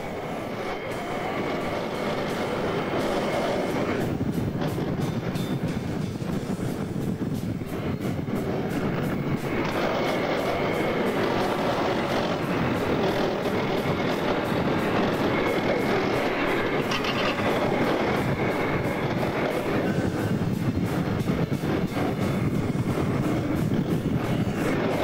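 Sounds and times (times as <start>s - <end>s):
armoured vehicle engine and tracks: 0.0s - 25.0s.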